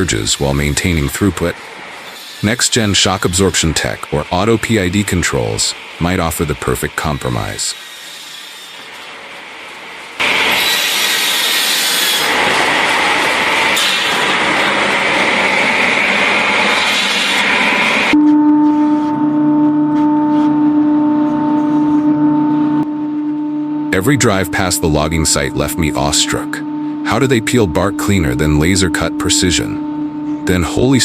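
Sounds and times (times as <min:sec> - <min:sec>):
machine drone with even hum: 0:00.0 - 0:31.0.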